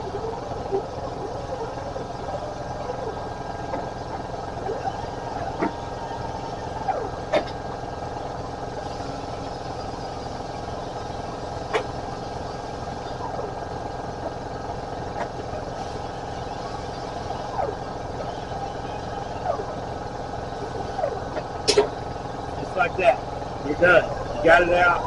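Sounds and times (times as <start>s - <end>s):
machine humming: 0.0s - 25.0s.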